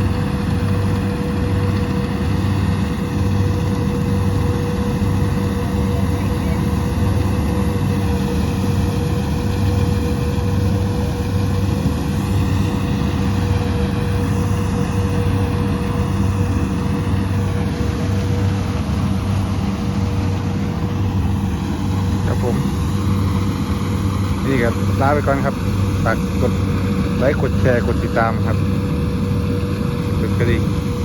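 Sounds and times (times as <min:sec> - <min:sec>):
combine harvester engine drone: 0:00.0 - 0:31.0
steady machine whine: 0:00.0 - 0:31.0.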